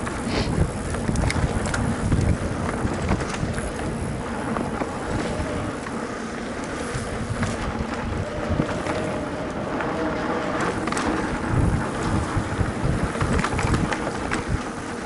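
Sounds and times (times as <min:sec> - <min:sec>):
bike rattles and knocks: 0:00.0 - 0:15.0
bike tyres rumbling on dirt: 0:00.0 - 0:15.0
wind on microphone: 0:00.0 - 0:15.0.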